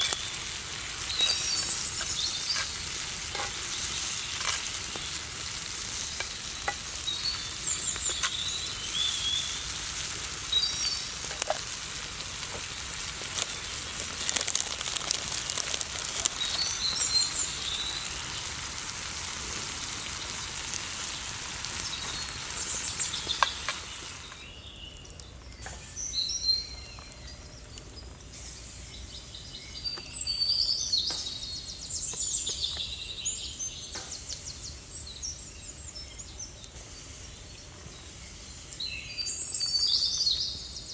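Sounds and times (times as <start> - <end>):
meat sizzling in a frying pan: 0.0 - 25.0, 28.3 - 40.9
small birds chirping: 0.0 - 40.9.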